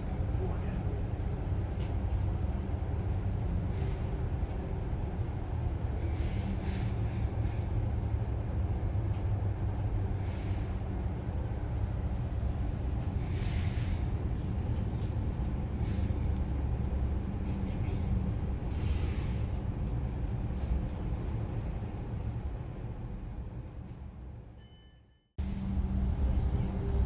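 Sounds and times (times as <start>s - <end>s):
train wheels rumbling on rails: 0.0s - 24.7s, 25.4s - 27.0s.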